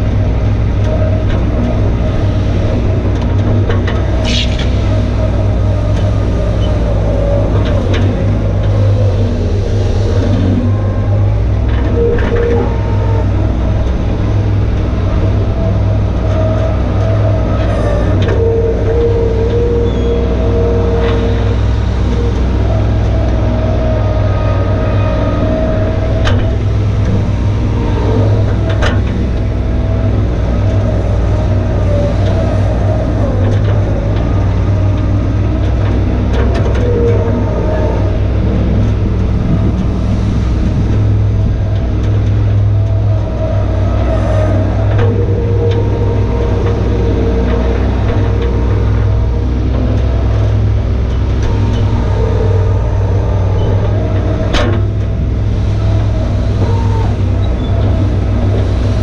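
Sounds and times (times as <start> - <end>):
loader whine: 0.0 - 59.0
skid-steer loader diesel rumble: 0.0 - 59.0.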